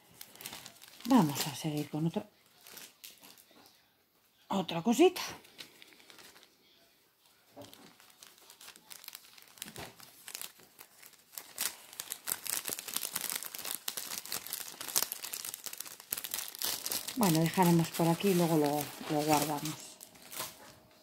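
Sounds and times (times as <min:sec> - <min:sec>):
plastic bag crinkling: 0:00.0 - 0:03.5, 0:05.4 - 0:06.6, 0:07.6 - 0:21.0.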